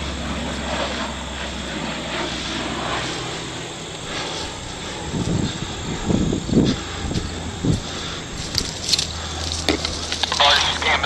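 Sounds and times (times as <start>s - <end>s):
turboprop aircraft engine drone: 0.0s - 11.0s.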